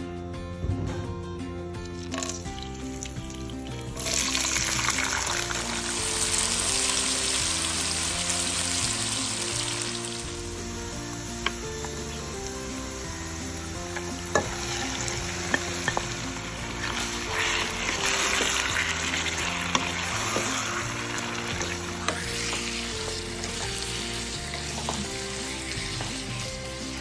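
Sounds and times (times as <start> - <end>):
chicken sizzling in oil: 2.1 - 27.0.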